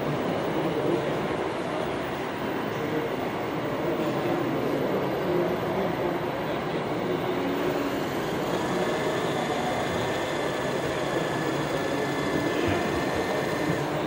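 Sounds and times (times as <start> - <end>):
exhibition hall din: 0.0 - 14.0.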